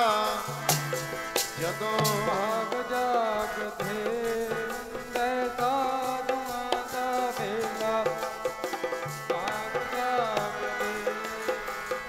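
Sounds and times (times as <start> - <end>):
dholak drum strokes: 0.0 - 12.0
harmonium melody: 0.0 - 12.0
person singing: 1.6 - 12.0.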